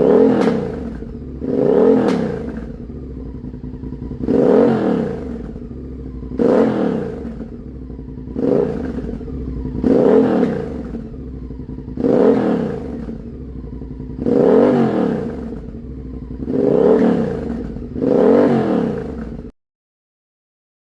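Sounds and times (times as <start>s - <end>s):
motorcycle engine revving: 0.0s - 19.6s.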